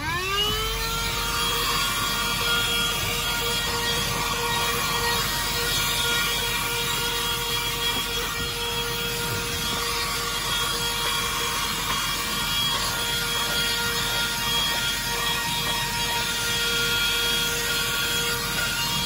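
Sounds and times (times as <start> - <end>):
handheld vacuum cleaner running: 0.0 - 19.0.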